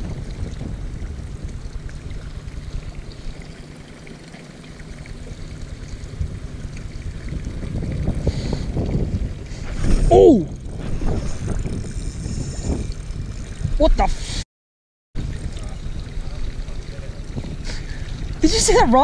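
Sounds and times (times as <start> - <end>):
wind buffeting microphone: 0.0 - 3.8, 4.8 - 14.2, 15.2 - 19.0.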